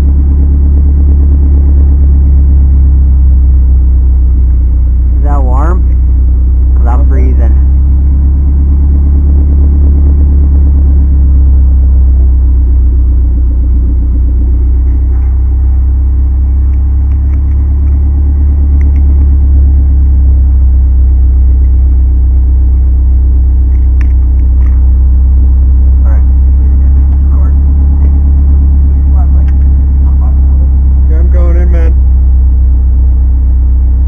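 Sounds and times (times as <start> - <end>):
car engine idling rumble: 0.0 - 34.0.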